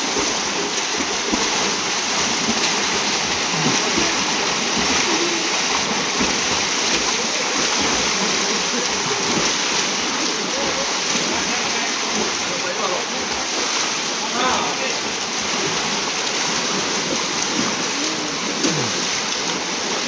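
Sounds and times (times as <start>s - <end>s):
swimmers splashing water: 0.0s - 20.0s.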